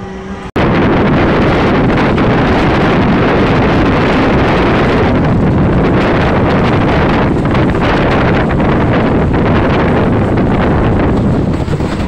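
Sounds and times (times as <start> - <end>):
train rumbling on track: 0.0 - 12.0
wind buffeting microphone: 0.0 - 12.0.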